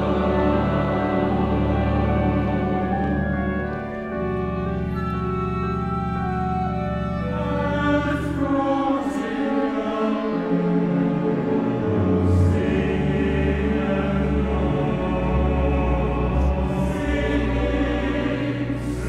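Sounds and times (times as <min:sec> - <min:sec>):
choir singing slow chords: 0:00.0 - 0:19.0
harp: 0:00.0 - 0:19.0
piano: 0:00.0 - 0:19.0
strings: 0:00.0 - 0:19.0.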